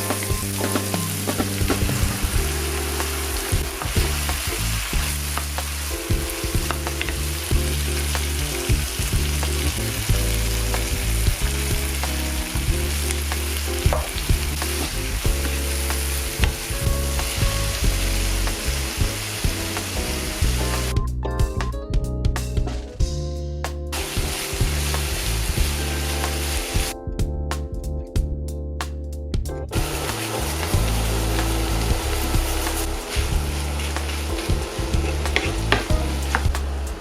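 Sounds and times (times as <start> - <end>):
background tune: 0.0 - 28.8, 29.4 - 37.0.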